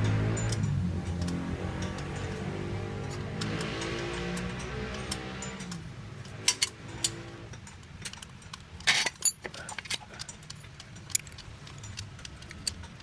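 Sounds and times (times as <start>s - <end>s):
metallic clinks and knocks: 0.0s - 13.0s.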